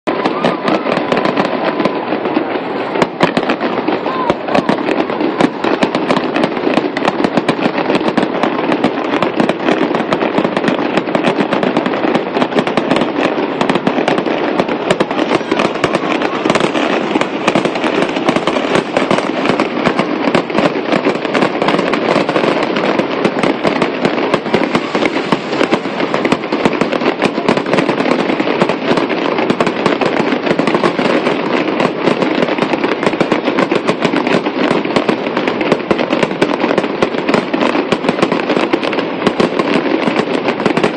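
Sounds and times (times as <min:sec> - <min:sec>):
fireworks crackling and popping: 0:00.0 - 0:40.9.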